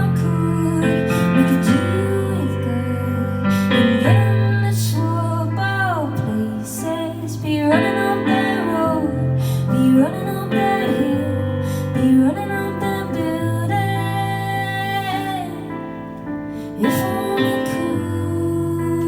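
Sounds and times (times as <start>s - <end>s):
guitar: 0.0s - 19.0s
woman singing: 0.0s - 19.0s.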